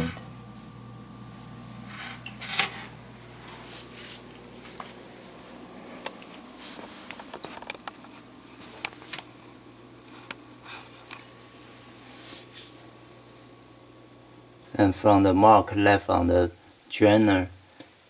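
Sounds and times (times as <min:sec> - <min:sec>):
low steady hum: 0:00.0 - 0:17.5.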